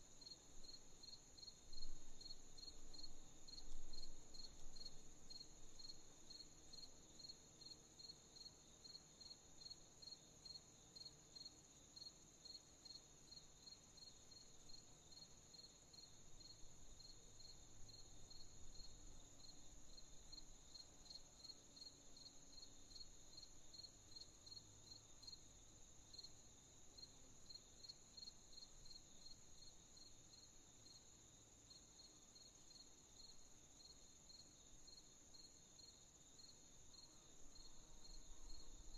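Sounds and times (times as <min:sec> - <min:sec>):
faint crickets chirping: 0:00.0 - 0:38.9.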